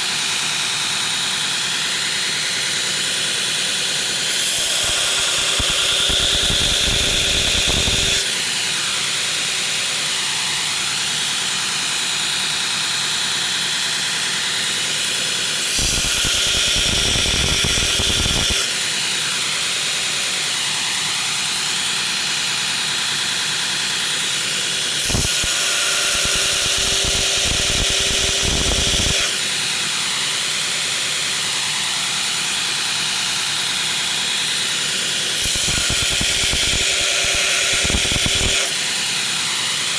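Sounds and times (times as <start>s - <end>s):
belt grinder running: 0.0s - 39.9s.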